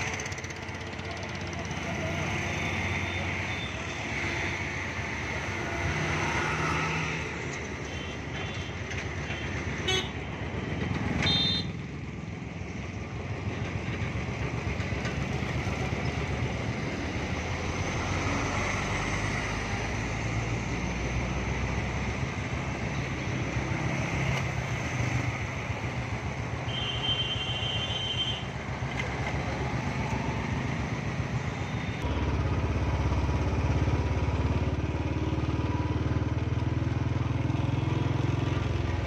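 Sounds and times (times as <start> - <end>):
truck and motorcycle engines: 0.0 - 39.0.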